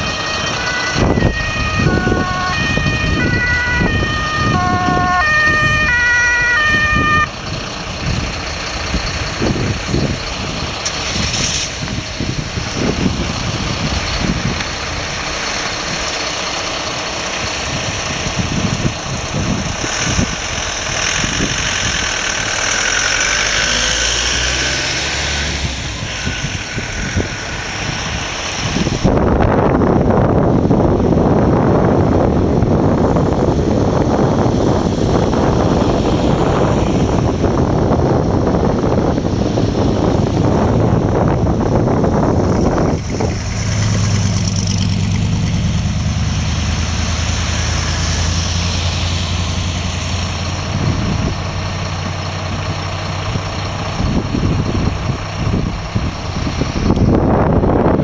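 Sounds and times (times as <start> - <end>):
wind buffeting the microphone: 0.0 - 22.8, 23.6 - 58.0
vehicles running: 0.0 - 58.0.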